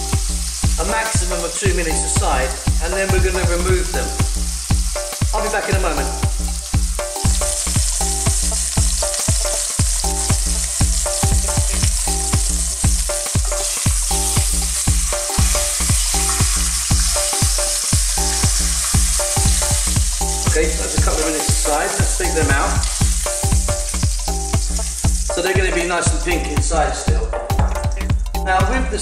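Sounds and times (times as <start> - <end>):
meat sizzling in a pan: 0.0 - 26.2
low musical beat: 0.0 - 29.0.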